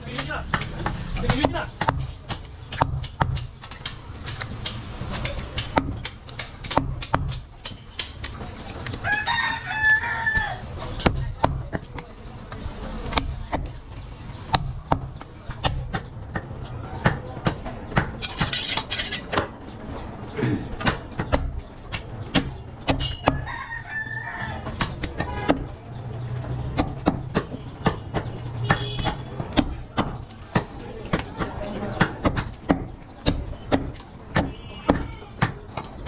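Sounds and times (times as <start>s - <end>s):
knife chopping meat on wood: 0.1s - 9.0s, 10.2s - 18.6s, 20.8s - 23.6s, 24.6s - 25.7s, 26.5s - 36.0s.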